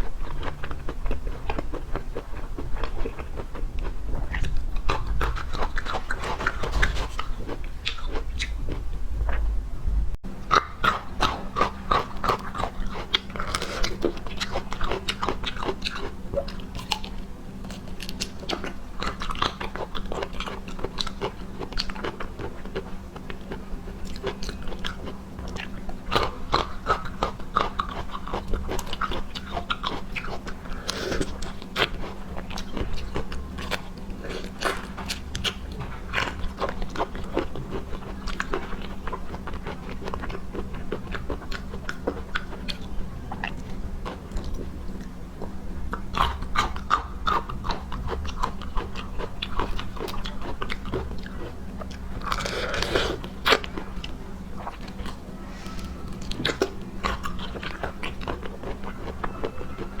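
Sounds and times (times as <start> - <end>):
wet chewing and biting: 0.0 - 9.6, 10.5 - 55.2, 56.2 - 59.9
steady low hum: 0.0 - 60.0.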